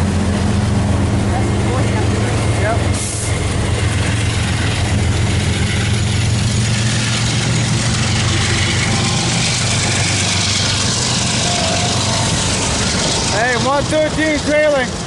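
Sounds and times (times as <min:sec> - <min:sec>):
diesel locomotive engines droning: 0:00.0 - 0:15.0
train rumbling on rails: 0:00.0 - 0:15.0.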